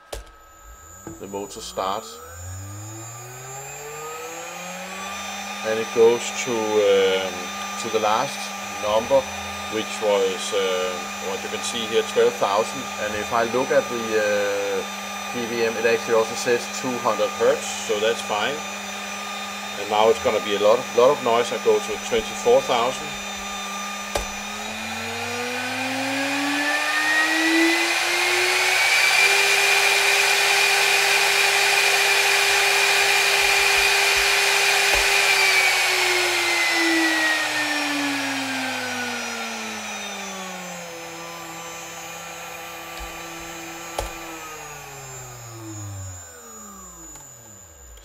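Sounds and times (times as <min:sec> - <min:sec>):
spindle motor whine: 0:00.0 - 0:48.0
cooling fan rush: 0:01.2 - 0:46.9.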